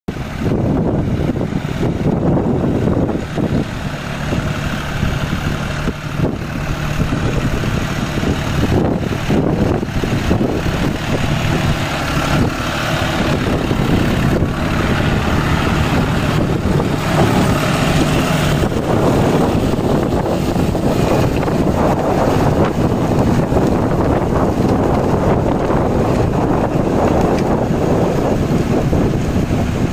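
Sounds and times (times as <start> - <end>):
rotavator blades churning mud: 0.1 - 29.9
tractor diesel engine running: 0.1 - 29.9.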